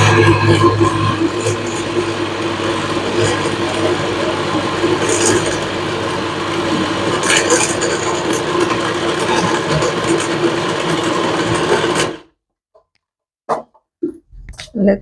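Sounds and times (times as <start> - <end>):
blender motor running: 0.0 - 12.3.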